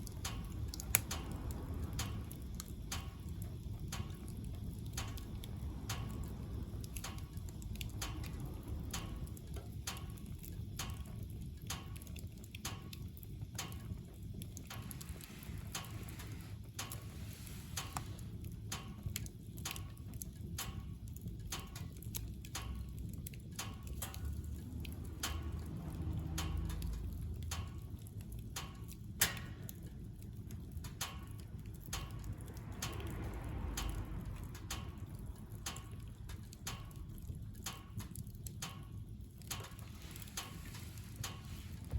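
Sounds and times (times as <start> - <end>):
firewood crackling and popping: 0.0 - 41.9
low rumble of fire: 0.0 - 41.9.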